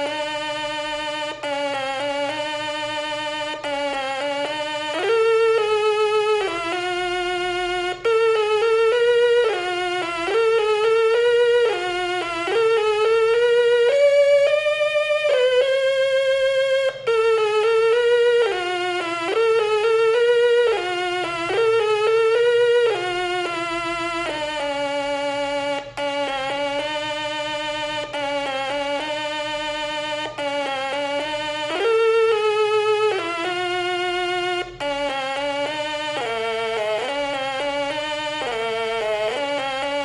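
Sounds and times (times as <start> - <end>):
slow instrumental melody with vibrato: 0.0 - 40.0.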